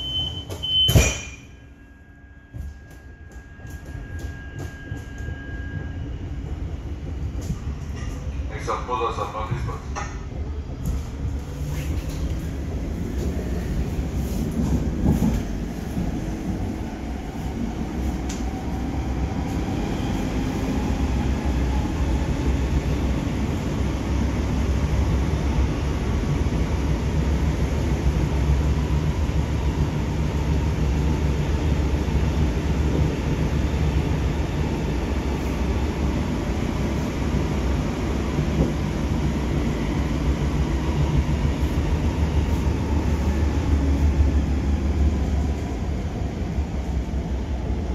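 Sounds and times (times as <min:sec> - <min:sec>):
train rumbling in tunnel: 0:00.0 - 0:47.9.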